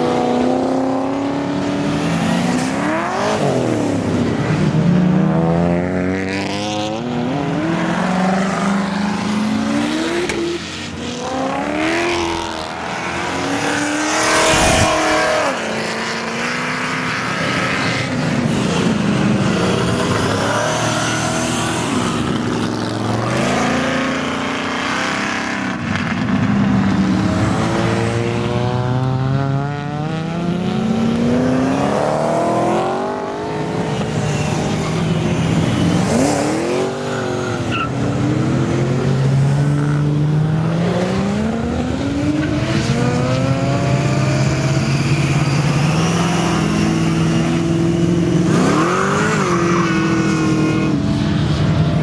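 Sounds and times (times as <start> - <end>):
race cars accelerating past: 0.0 - 52.0.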